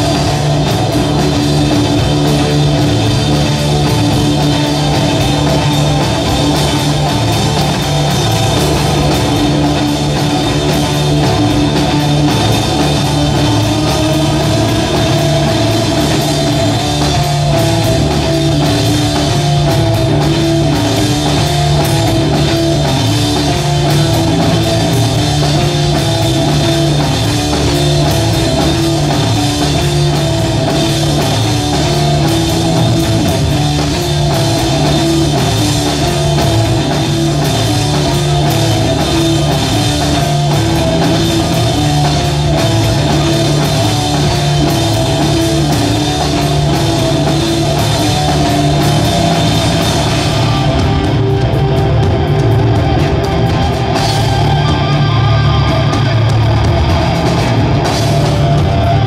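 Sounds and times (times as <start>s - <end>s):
bass guitar: 0.0s - 59.0s
drumming: 0.0s - 59.0s
electric guitar riff: 0.0s - 59.0s.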